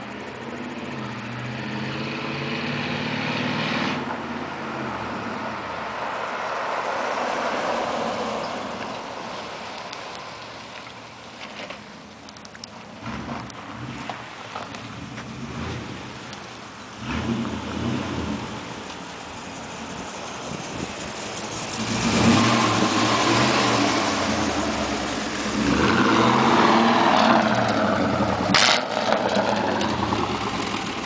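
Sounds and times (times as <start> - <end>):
truck engine revving: 0.5 - 9.5, 13.0 - 31.0.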